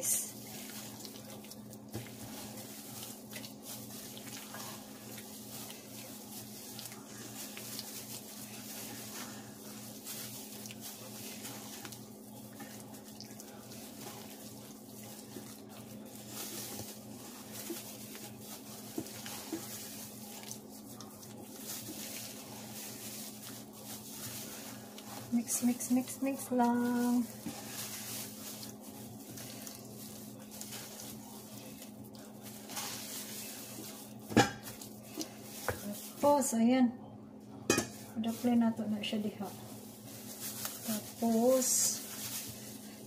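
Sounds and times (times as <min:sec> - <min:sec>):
spatula squelching thick batter: 0:00.0 - 0:36.3
steady low hum: 0:00.0 - 0:43.0.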